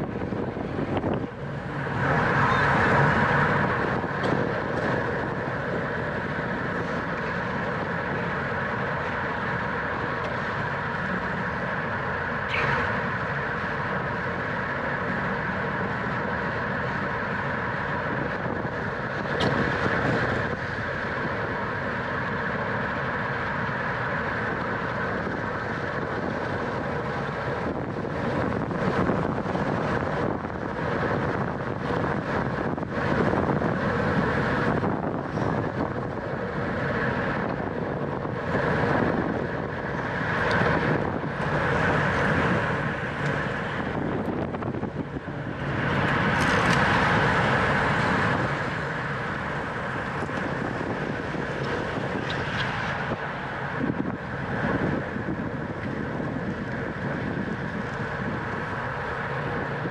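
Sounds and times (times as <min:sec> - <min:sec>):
road and tyre noise: 0:00.0 - 0:59.9
wind buffeting microphone: 0:00.0 - 0:59.9.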